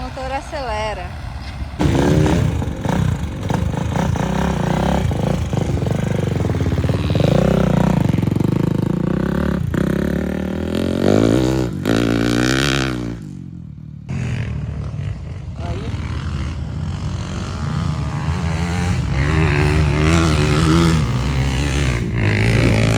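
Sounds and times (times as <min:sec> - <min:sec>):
motorcycle engines revving: 0:00.0 - 0:22.9.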